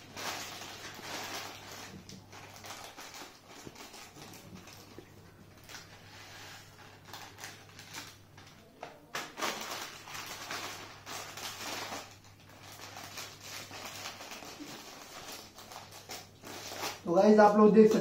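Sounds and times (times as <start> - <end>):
plastic pouches crinkling: 0.0 - 18.0.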